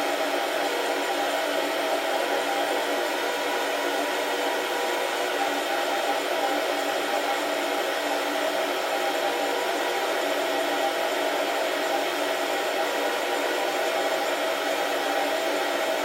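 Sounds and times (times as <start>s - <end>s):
coffee roaster fan whirring: 0.0s - 16.0s.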